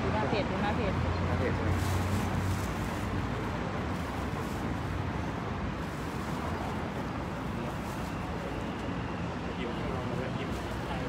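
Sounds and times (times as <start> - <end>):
low traffic hum: 0.0 - 11.0.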